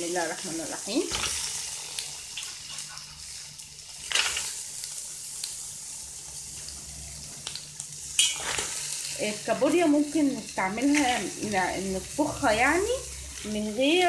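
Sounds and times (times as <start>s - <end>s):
oil sizzling in metal pot: 0.0s - 14.0s.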